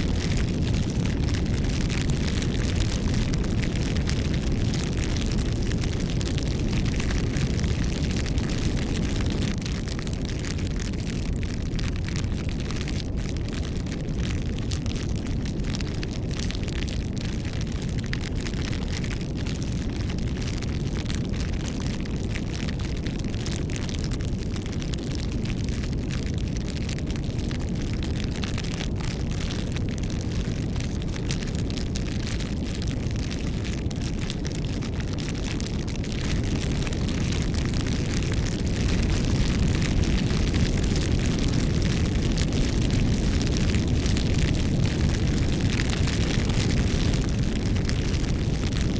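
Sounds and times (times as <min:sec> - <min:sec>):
bonfire crackling and popping: 0:00.0 - 0:48.9.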